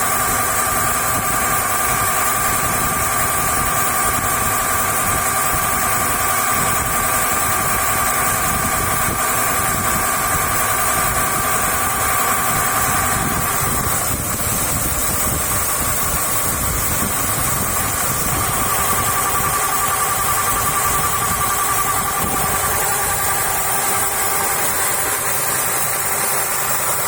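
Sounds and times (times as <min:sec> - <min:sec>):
engine running: 0:00.0 - 0:27.0
steady high gearbox tone: 0:00.0 - 0:27.0.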